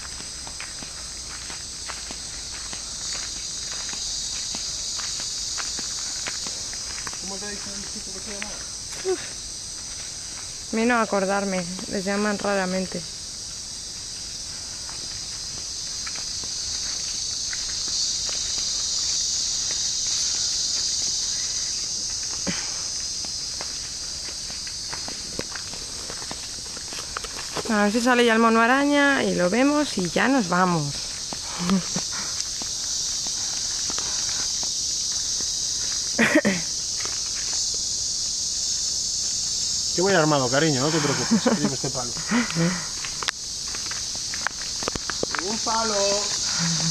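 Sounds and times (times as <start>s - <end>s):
footsteps on dirt trail: 0.0s - 12.7s, 13.3s - 38.4s, 40.8s - 46.9s
high-pitched insect chorus: 0.0s - 46.9s.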